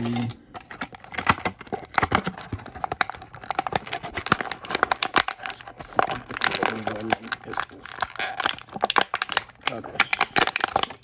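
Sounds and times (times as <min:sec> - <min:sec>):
plastic blister pack crackling: 0:00.1 - 0:11.0.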